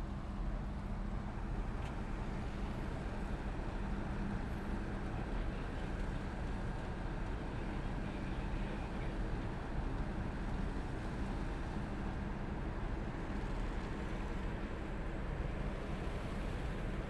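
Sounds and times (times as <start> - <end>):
boat diesel engine droning: 0.0 - 17.0.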